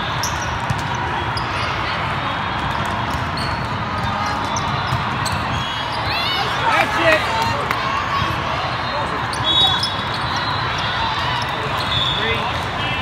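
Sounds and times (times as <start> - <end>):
crowd noise in hall: 0.0 - 13.0.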